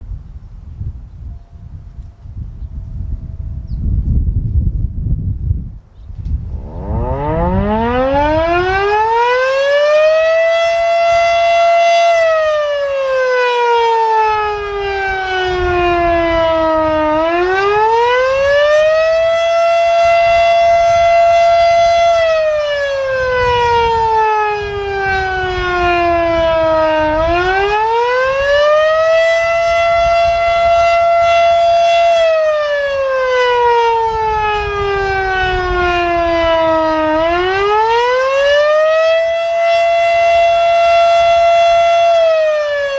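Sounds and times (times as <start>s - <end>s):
siren wailing up and down: 6.3s - 42.9s.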